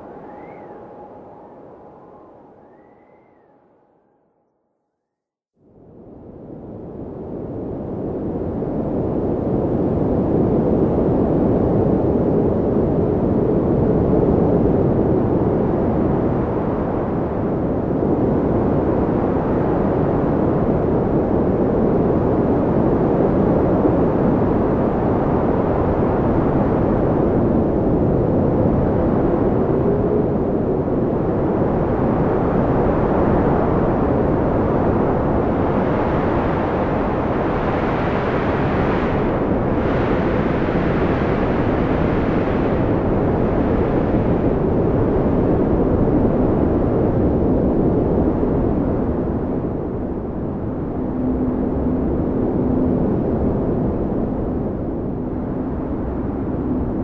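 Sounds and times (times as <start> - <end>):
wind buffeting microphone: 0.0 - 3.7, 6.6 - 57.0.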